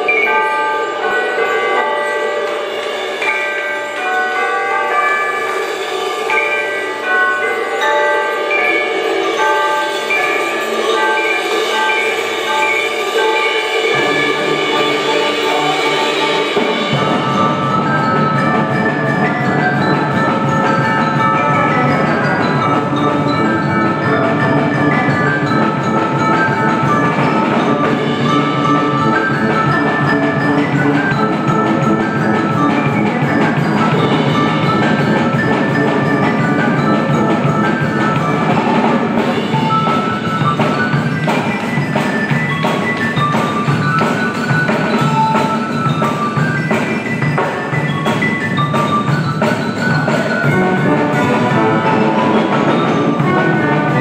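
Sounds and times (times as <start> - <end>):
drums: 0.0 - 54.0
mallet percussion melody: 0.0 - 54.0.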